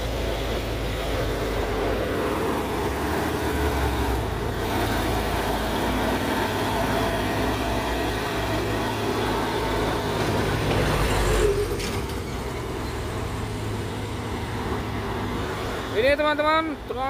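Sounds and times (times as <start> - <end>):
tyre noise on road: 0.0 - 16.9
diesel trucks passing: 0.0 - 17.0.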